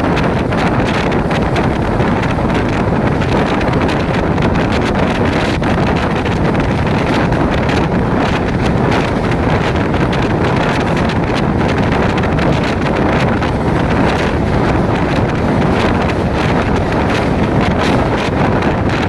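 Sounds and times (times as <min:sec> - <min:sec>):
train rumbling: 0:00.0 - 0:19.0
wind buffeting microphone: 0:00.0 - 0:19.0.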